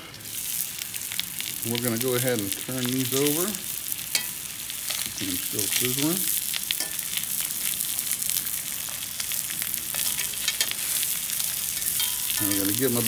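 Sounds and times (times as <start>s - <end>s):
fat crackling and popping: 0.0s - 13.0s
steaks sizzling in a pan: 0.0s - 13.0s.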